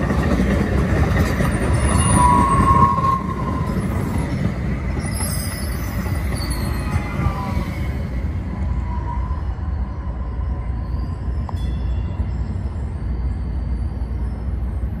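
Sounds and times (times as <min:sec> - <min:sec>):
light rail train rumbling: 0:00.0 - 0:15.0
high wheel squeal: 0:01.4 - 0:14.9.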